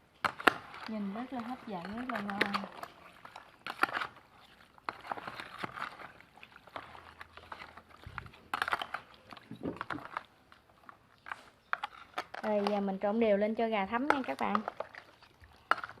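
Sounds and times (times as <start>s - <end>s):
wet squishing of marinated meat: 0.1s - 16.0s.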